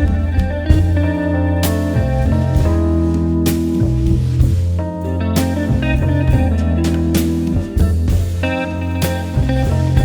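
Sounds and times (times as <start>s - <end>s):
guitar and drums music: 0.0s - 10.0s.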